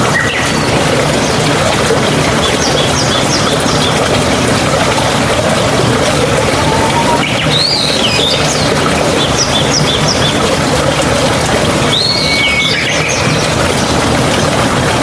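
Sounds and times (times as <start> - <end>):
mountain water rushing: 0.0 - 15.0.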